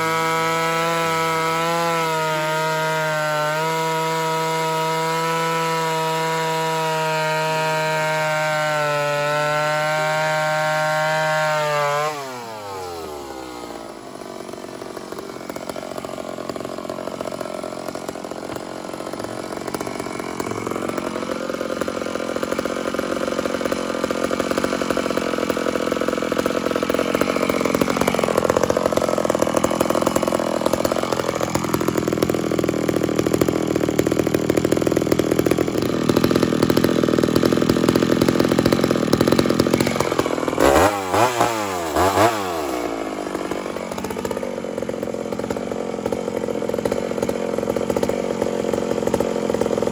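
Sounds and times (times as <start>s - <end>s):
chain cutting wood: 0.0s - 49.9s
chainsaw at full throttle: 0.0s - 49.9s.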